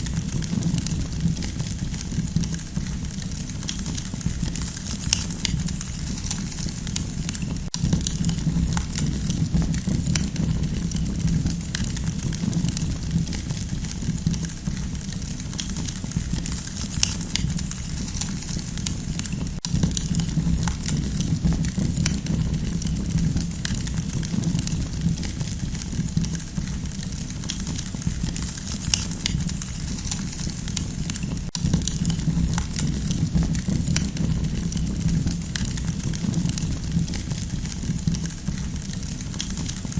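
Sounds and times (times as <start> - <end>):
campfire crackling: 0.0 - 39.9
low rumble of flame: 0.0 - 39.9.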